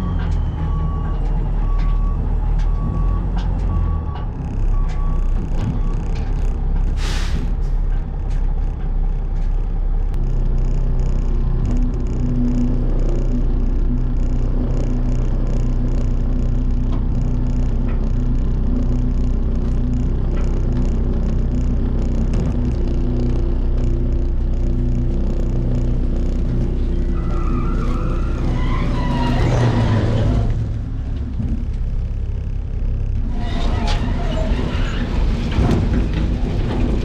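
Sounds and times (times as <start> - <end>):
heavy machine engine running: 0.0 - 37.0
rattling and squeaks: 0.0 - 37.0.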